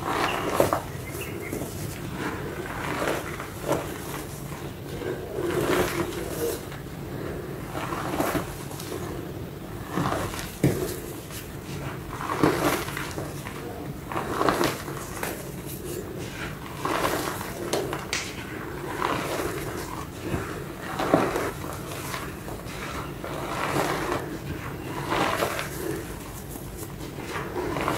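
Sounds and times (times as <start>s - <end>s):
chalk crunching and crumbling: 0.0s - 27.9s
low steady hum: 0.0s - 27.9s.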